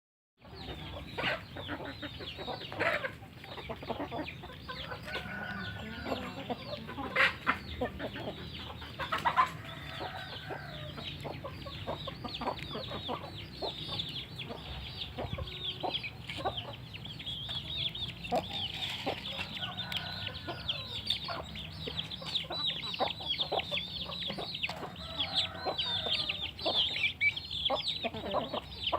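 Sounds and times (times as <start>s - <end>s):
chickens clucking: 0.4s - 28.9s
chicks peeping: 0.4s - 28.9s
sharp chicken calls or pecks: 0.4s - 28.9s.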